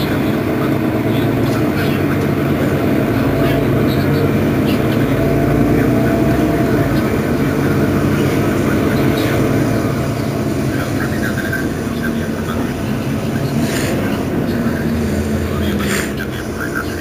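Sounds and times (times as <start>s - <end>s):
bus engine idling: 0.0s - 17.0s.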